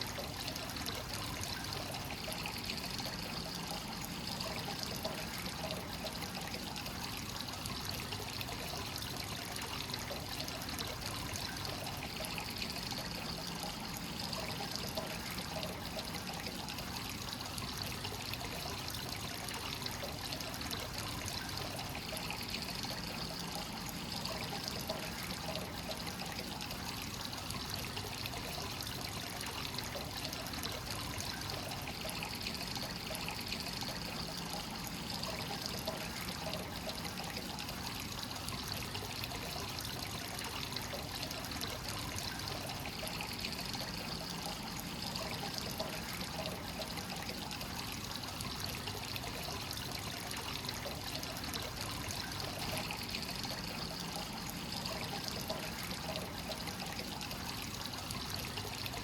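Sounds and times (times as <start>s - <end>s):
water pouring into a bath: 0.0s - 59.0s.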